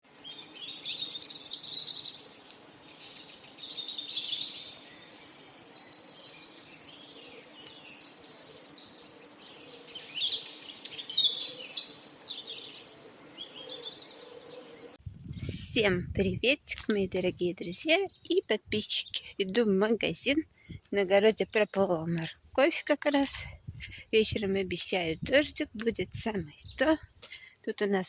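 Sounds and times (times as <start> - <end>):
faint outdoor background noise: 0.0 - 28.0
small songbirds singing: 0.1 - 28.0.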